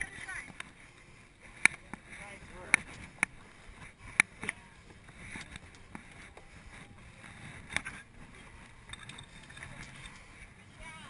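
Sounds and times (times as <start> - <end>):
camera knocking and scraping: 1.5 - 10.6.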